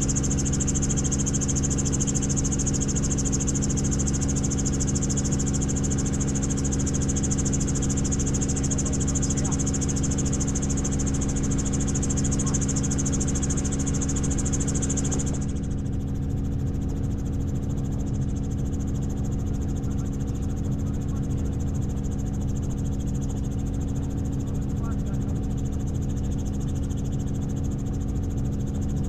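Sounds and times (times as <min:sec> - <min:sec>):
helicopter rotor drone: 0:00.0 - 0:29.0.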